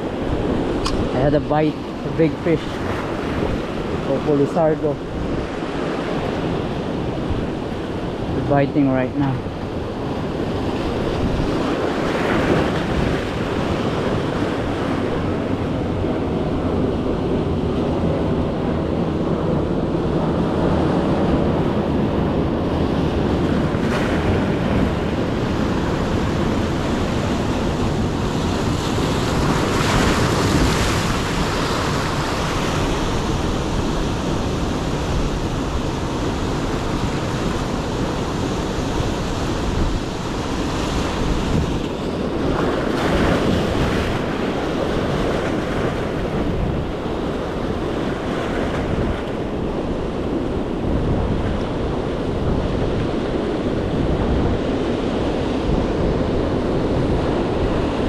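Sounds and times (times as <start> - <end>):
ocean surf washing: 0.0 - 58.0
wind buffeting microphone: 0.0 - 58.0.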